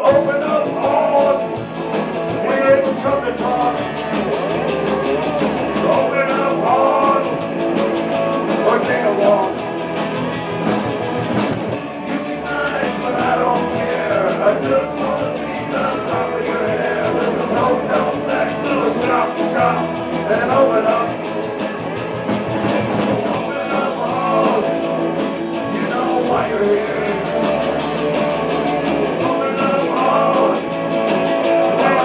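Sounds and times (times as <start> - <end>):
rock band music with guitar: 0.0 - 32.0.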